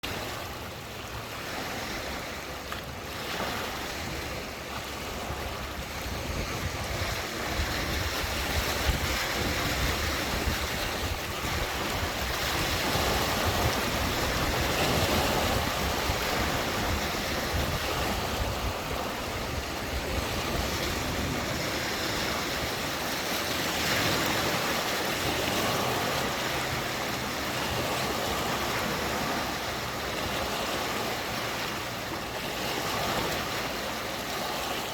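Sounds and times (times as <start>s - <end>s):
small waves washing on shore: 0.0s - 34.9s.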